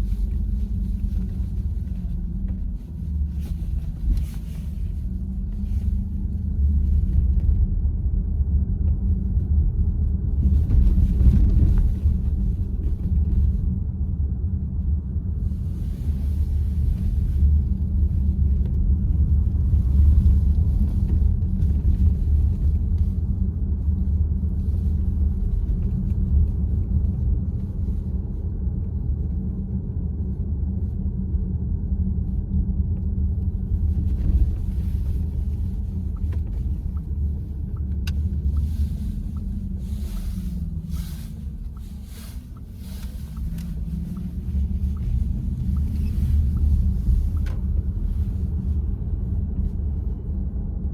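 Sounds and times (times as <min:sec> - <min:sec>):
road and tyre rumble: 0:00.0 - 0:50.9.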